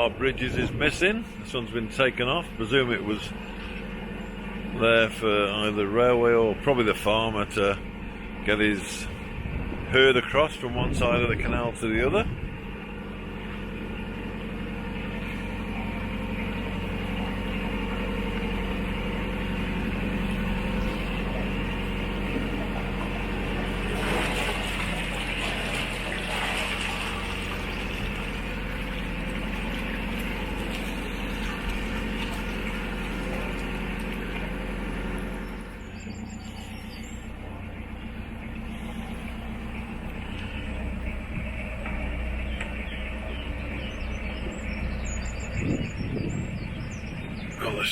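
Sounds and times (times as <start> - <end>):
boat diesel engine running: 0.0 - 47.9.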